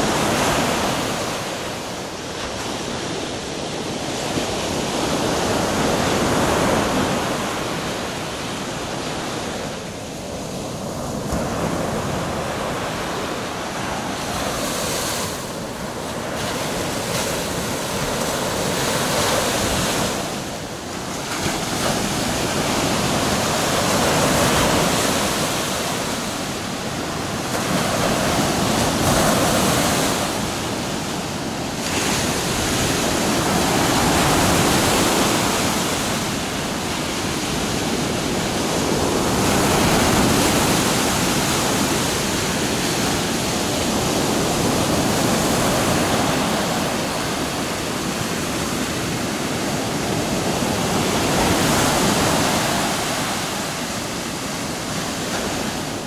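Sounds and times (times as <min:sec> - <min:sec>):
small waves breaking on sand: 0:00.0 - 0:56.0.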